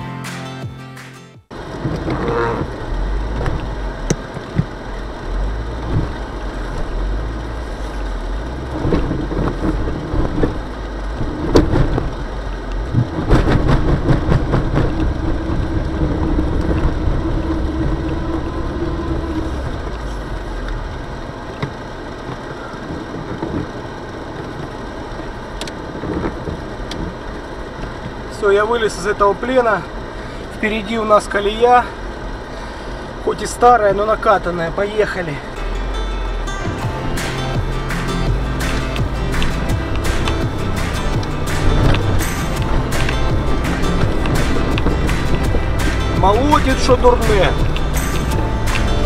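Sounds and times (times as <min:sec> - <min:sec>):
car engine revving: 0:01.5 - 0:28.3, 0:35.3 - 0:49.0.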